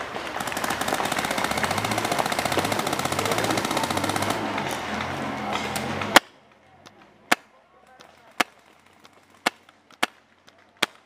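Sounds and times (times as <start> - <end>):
paintball marker firing: 0.4 - 4.8, 5.6 - 11.0.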